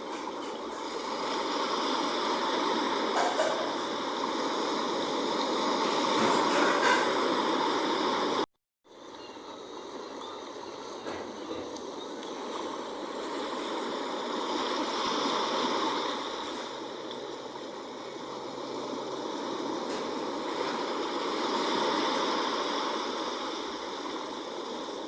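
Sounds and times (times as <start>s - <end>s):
sea water washing: 0.0s - 25.0s.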